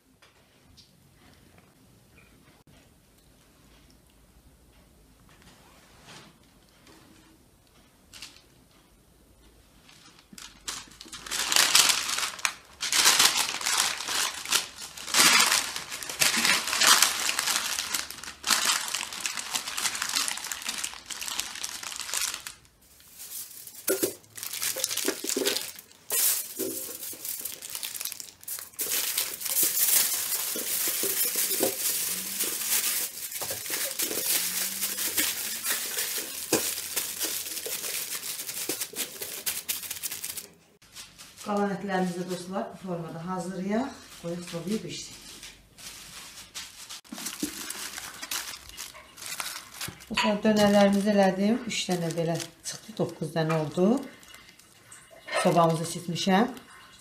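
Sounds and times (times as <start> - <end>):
aluminium foil crinkling: 9.8 - 42.5, 44.0 - 57.0
baking paper crinkling: 9.8 - 56.9.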